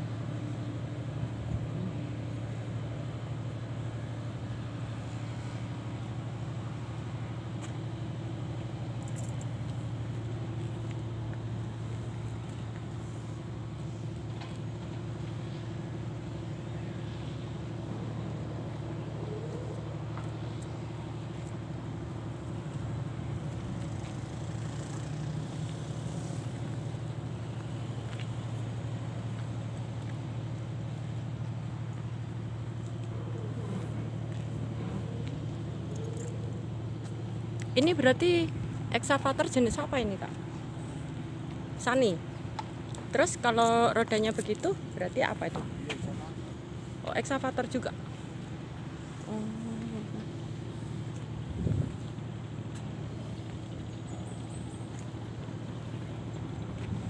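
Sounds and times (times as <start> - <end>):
excavator diesel engine idling: 0.0 - 57.0.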